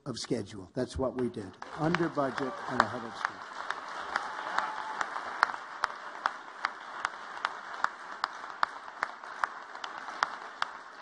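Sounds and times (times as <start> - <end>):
audience applauding: 1.0 - 11.0
sharp even claps: 1.0 - 11.0.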